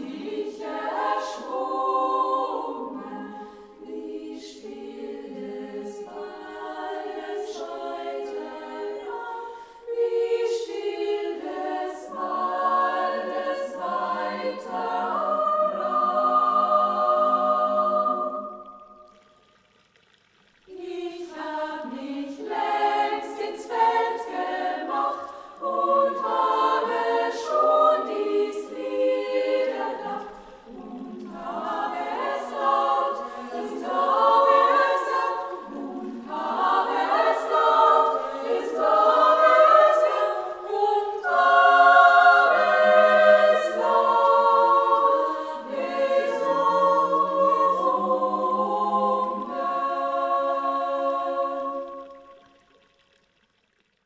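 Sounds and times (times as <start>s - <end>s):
women's choir singing a cappella: 0.0s - 19.0s, 20.7s - 52.2s.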